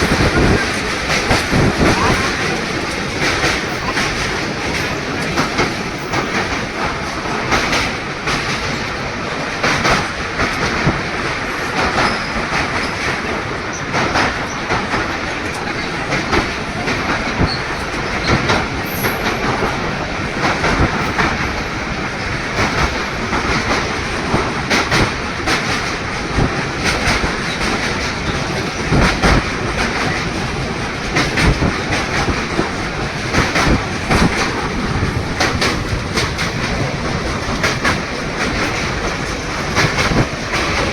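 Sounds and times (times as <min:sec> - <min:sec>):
train rumble: 0:00.0 - 0:40.9
wheels clacking over rail joints: 0:00.0 - 0:40.9.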